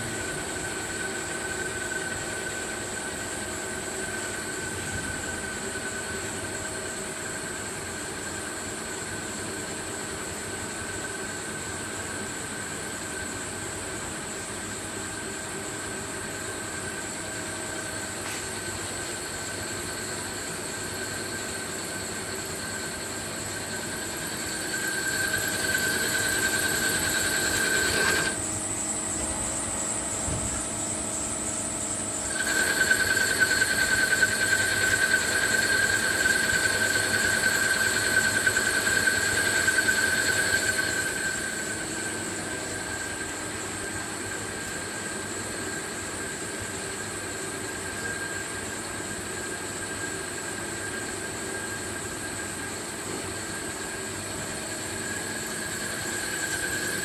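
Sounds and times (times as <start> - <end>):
machine high-pitched whine: 0.0 - 57.0
mechanical hum: 0.0 - 57.0.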